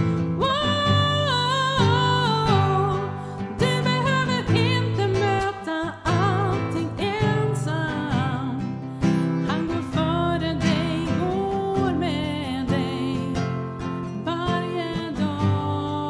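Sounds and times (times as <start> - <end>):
acoustic guitar strumming: 0.0 - 16.0
woman singing: 0.0 - 16.0.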